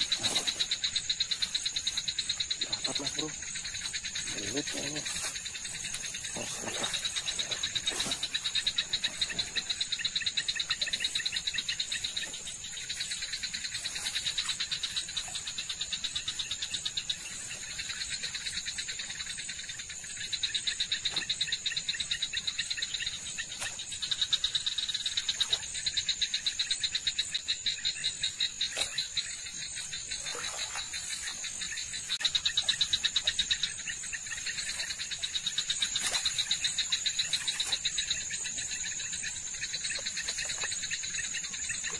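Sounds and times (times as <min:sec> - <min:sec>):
frogs and insects trilling: 0:00.0 - 0:41.9.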